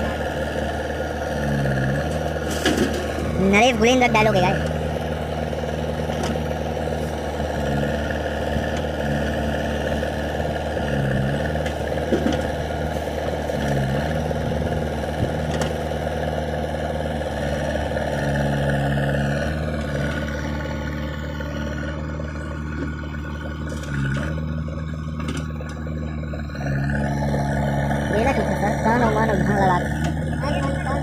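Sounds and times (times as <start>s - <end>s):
diesel engine working: 0.0s - 31.0s.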